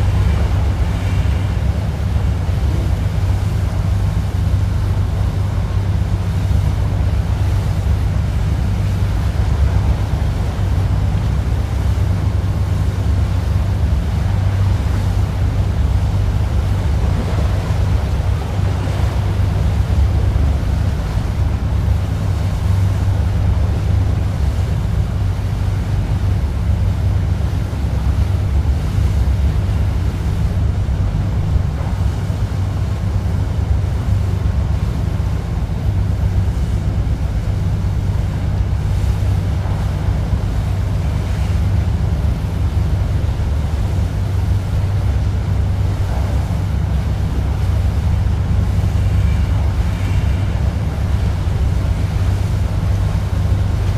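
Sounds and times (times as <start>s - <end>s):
boat engine drone: 0.0s - 53.9s
water rushing along hull: 0.0s - 53.9s
wind buffeting microphone: 0.0s - 53.9s.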